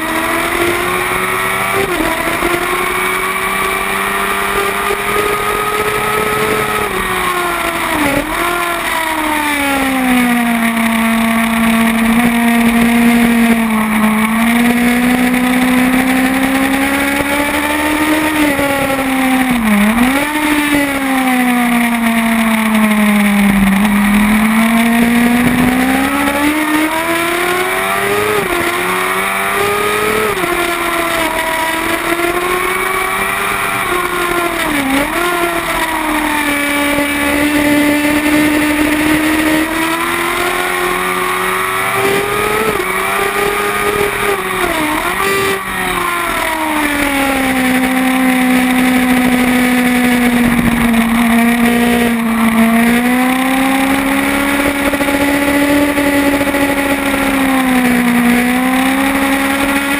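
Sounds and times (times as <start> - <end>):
motorcycle engine at racing speed: 0.0 - 59.9.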